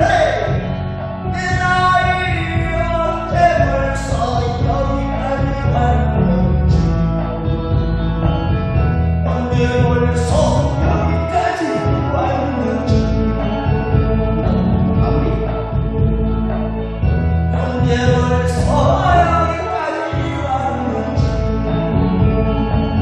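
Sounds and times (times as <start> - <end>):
person singing: 0.0 - 7.7, 9.2 - 16.3, 17.5 - 23.0
instrumental accompaniment with bass: 0.0 - 23.0.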